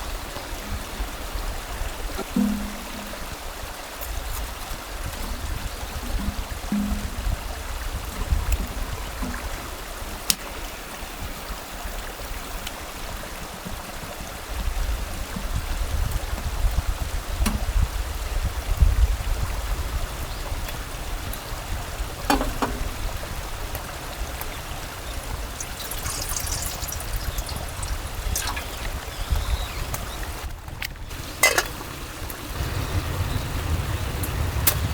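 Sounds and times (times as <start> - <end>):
mountain stream flowing: 0.0 - 34.5.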